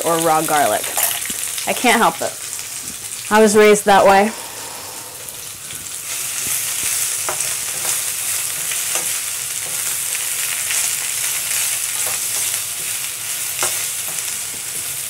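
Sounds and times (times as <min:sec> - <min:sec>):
greens sizzling in a skillet: 0:00.0 - 0:15.0.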